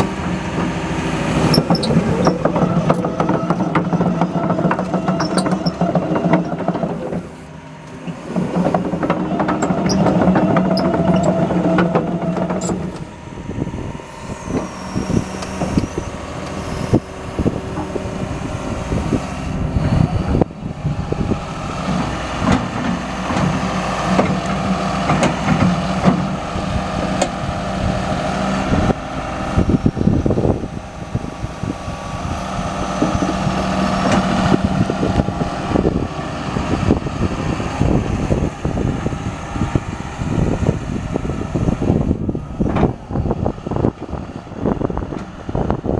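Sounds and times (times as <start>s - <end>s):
machine knocks and clanks: 0.0s - 13.2s, 14.3s - 38.9s
excavator diesel engine running: 0.0s - 45.9s.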